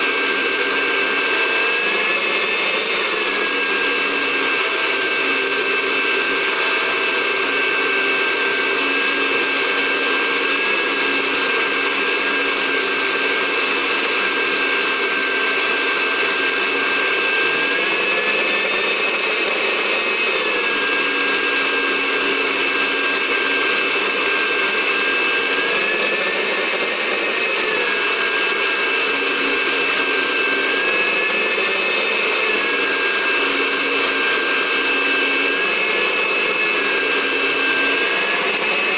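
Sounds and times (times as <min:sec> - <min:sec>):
electric blender grinding: 0:00.0 - 0:38.9.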